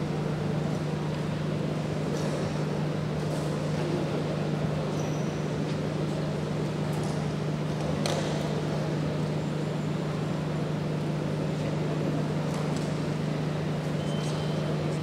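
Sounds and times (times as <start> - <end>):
continuous noisy background: 0.0 - 15.0
steady low hum: 0.0 - 15.0.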